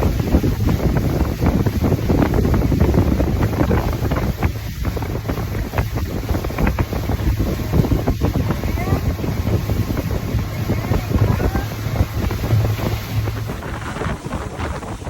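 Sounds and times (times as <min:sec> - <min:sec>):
motorboat motor and hull: 0:00.0 - 0:15.0
wind buffeting microphone: 0:00.0 - 0:15.0.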